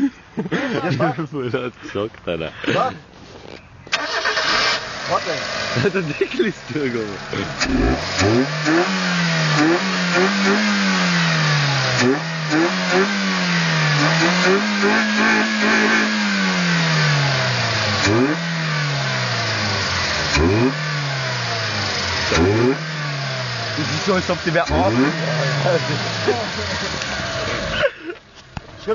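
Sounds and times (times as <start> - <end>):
engine-like droning: 4.0 - 27.8.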